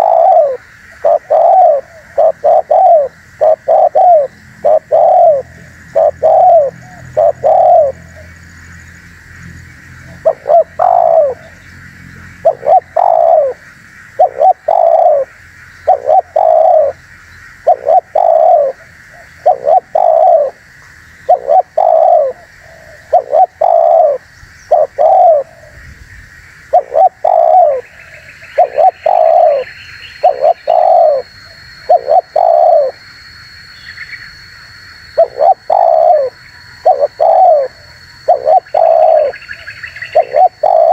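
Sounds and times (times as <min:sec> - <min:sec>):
dove cooing: 0:00.0 - 0:08.4, 0:10.0 - 0:11.6, 0:12.2 - 0:17.0, 0:17.6 - 0:20.6, 0:21.2 - 0:25.9, 0:26.7 - 0:33.0, 0:35.2 - 0:40.9.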